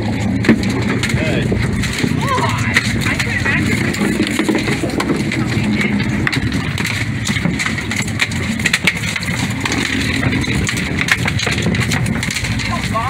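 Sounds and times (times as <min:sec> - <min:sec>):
boat engine running: 0:00.0 - 0:13.0
fish thrashing on deck: 0:00.0 - 0:13.0.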